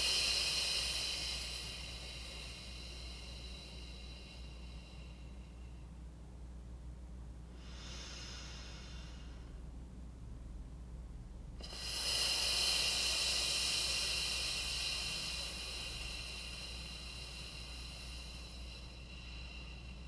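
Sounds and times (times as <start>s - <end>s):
long hissing exhale: 0.0s - 5.9s, 7.5s - 9.6s, 11.6s - 20.0s
person inhaling with soft hiss: 0.0s - 6.1s, 7.4s - 9.7s, 11.5s - 20.0s.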